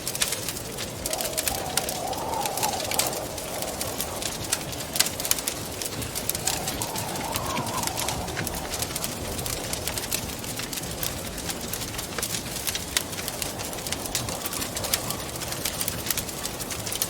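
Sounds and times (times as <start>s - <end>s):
wind howling in gusts: 0.0s - 17.0s
wood fire crackling and popping: 0.0s - 17.0s.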